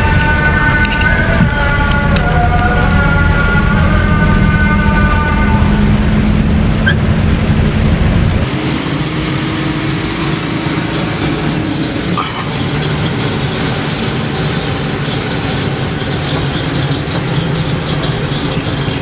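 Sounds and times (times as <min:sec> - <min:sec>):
bus engine and road noise drone: 0:00.0 - 0:19.0.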